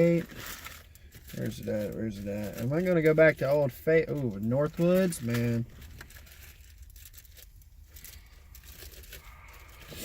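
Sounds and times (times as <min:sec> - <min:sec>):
plastic bags crinkling: 0:00.0 - 0:09.8.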